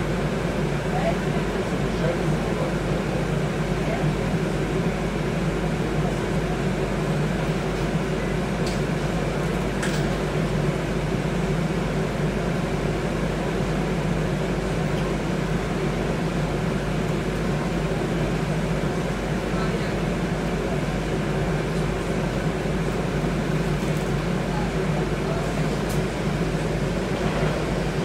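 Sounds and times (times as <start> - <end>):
bus diesel engine idling: 0.0 - 28.0.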